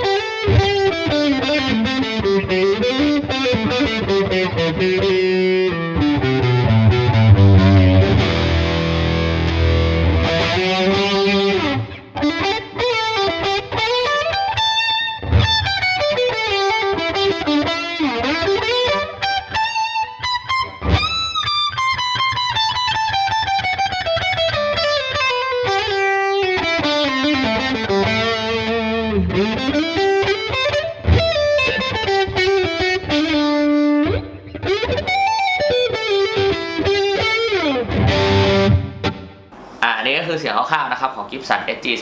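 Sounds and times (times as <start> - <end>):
distorted electric guitar solo: 0.0 - 41.2.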